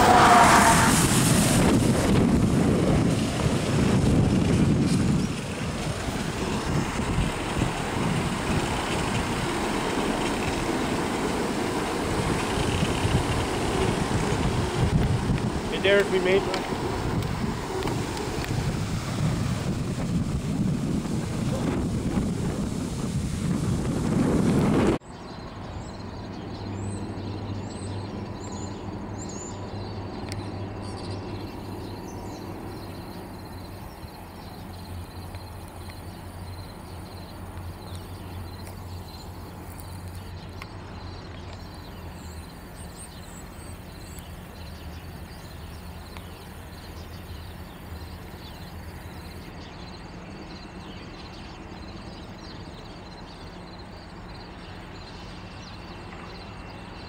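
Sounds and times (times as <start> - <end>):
distant diesel locomotive engines: 0.0 - 57.0.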